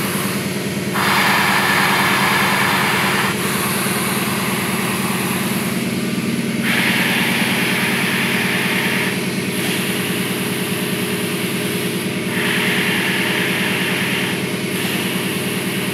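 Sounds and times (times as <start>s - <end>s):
compressed air hissing: 0.0s - 15.9s
steady motor hum: 0.0s - 15.9s.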